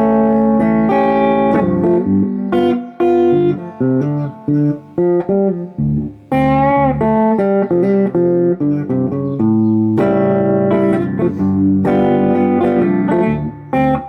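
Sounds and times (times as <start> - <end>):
electric guitar blues lead: 0.0 - 14.0.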